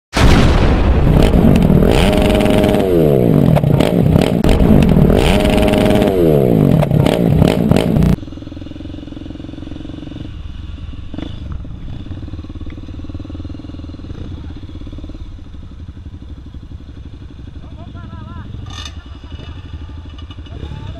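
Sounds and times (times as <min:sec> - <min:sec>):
dirt motorcycle engines revving: 0:01.1 - 0:20.9
steady engine hum: 0:01.1 - 0:20.9.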